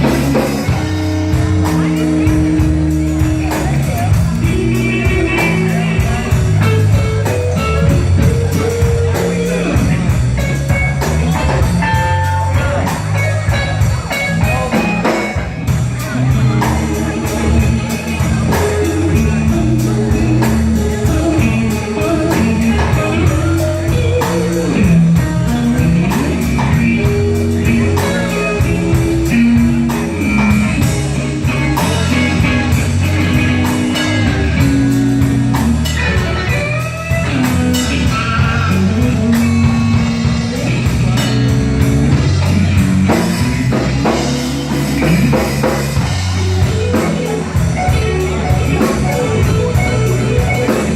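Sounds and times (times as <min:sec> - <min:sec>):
drum kit: 0:00.0 - 0:50.9
electric bass: 0:00.0 - 0:50.9
electric guitar with bent notes: 0:00.0 - 0:50.9.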